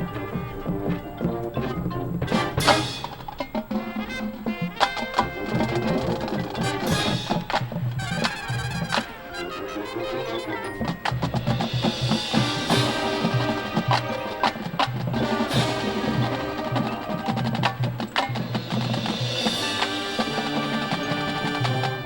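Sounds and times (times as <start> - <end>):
marching band playing: 0.0 - 22.0
sharp percussion accents: 0.0 - 22.0.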